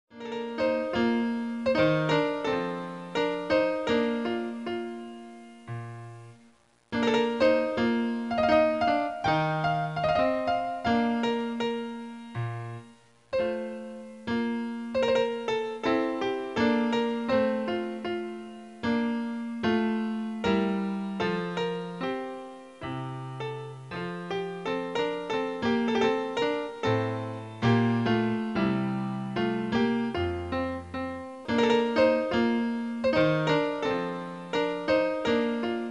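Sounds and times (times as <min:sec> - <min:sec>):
piano music: 0:00.1 - 0:35.9.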